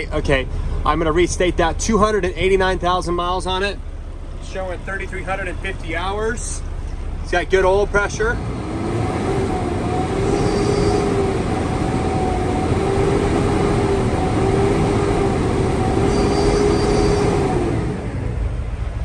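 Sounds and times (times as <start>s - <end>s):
diesel engine at raised revs: 0.0s - 19.0s.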